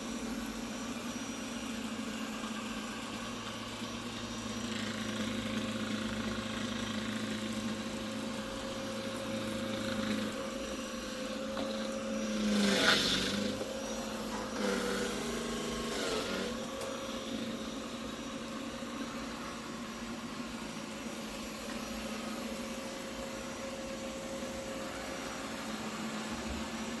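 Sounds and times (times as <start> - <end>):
robot vacuum humming: 0.0 - 27.0.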